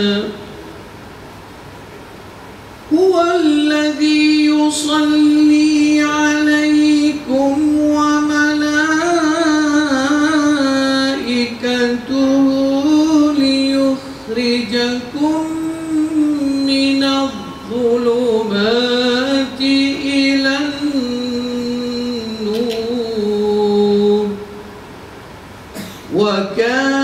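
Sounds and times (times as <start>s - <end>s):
man chanting melodically: 0.0s - 0.6s, 2.9s - 24.7s, 26.1s - 27.0s.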